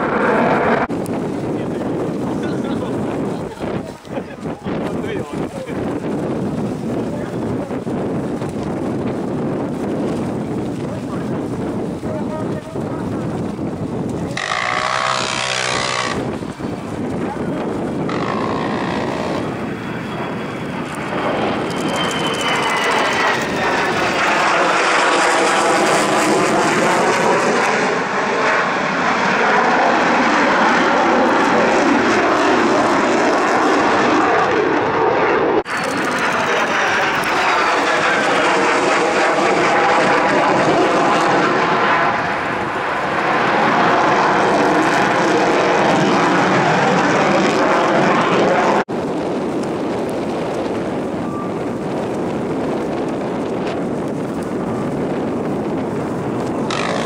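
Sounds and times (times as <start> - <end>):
fighter jet roaring overhead: 0.0 - 57.0.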